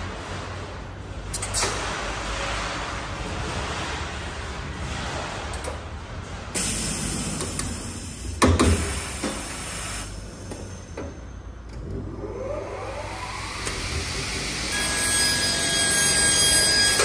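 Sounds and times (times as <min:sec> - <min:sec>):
pneumatic rush: 0:00.0 - 0:14.7.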